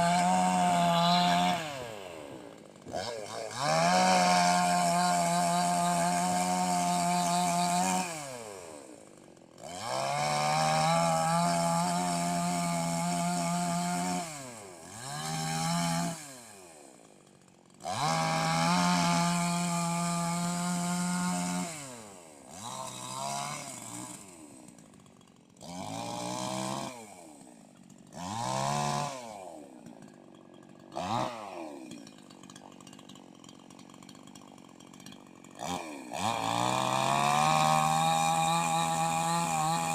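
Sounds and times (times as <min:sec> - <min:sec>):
chainsaw idling: 0:00.0 - 0:39.9
chainsaw revving: 0:00.0 - 0:39.9.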